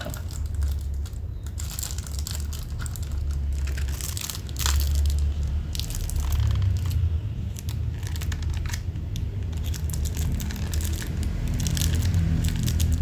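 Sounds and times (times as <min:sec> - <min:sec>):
packaging crinkling and rustling: 0:00.0 - 0:13.0
small sharp clicks and crackles: 0:00.0 - 0:13.0.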